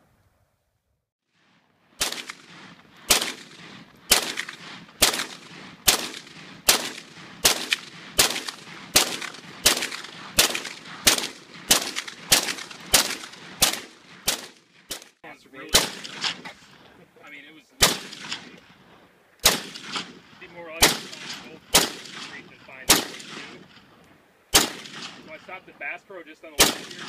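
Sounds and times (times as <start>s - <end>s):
rifle shots echoing: 2.0s - 17.0s, 17.8s - 27.0s.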